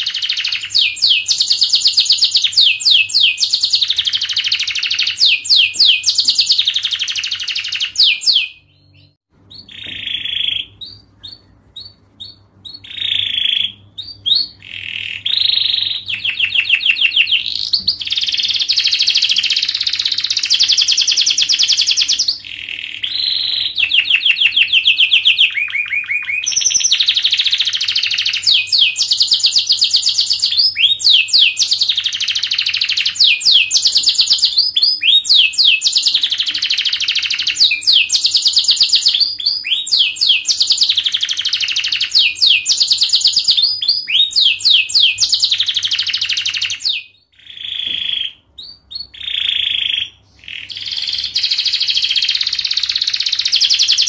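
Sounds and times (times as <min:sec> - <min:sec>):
canary singing rapid trills: 0:00.0 - 0:54.0.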